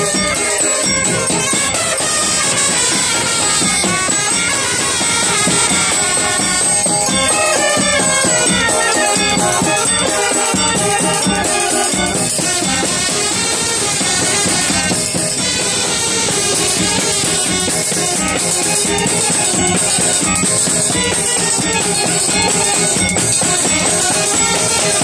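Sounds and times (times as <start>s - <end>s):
brass band playing: 0.0s - 25.0s
drum and percussion beat: 0.0s - 25.0s.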